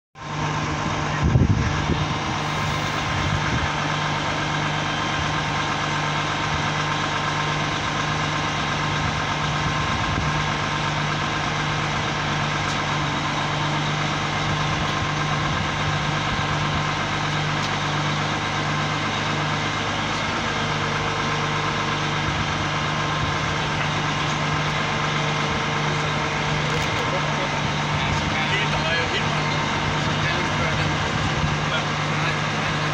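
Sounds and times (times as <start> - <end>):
diesel engine running steadily: 0.2 - 32.9.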